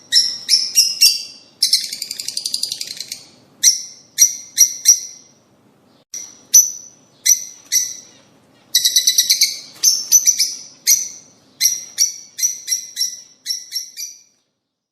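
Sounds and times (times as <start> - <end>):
lovebirds chirping: 0.0 - 14.9.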